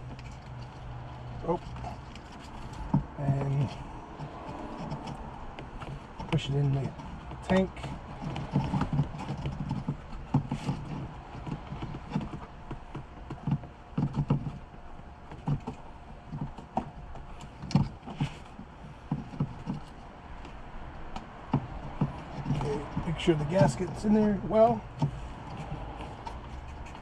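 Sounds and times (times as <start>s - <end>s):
fuel pump assembly knocking and scraping: 0.0s - 27.0s.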